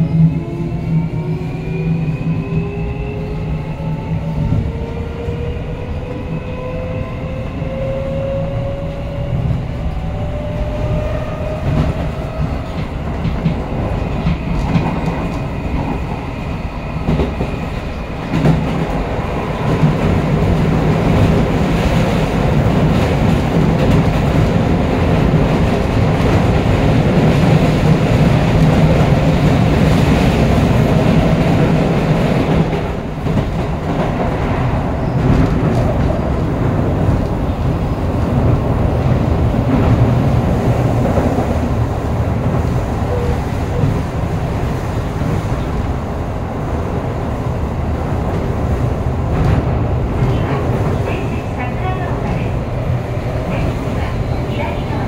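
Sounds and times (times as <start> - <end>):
wheels rumbling on rails: 0.1 - 55.0.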